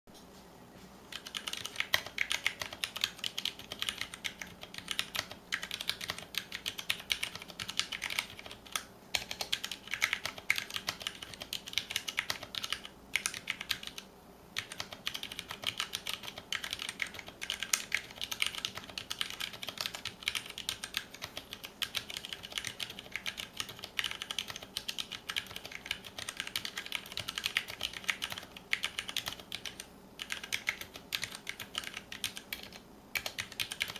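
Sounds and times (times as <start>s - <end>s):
fast typing on mechanical keyboard: 1.1s - 33.9s.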